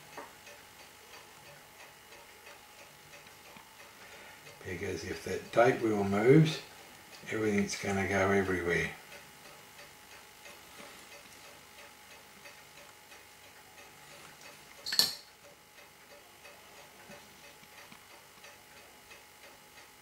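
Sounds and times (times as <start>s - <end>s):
watch ticking: 0.0s - 20.0s.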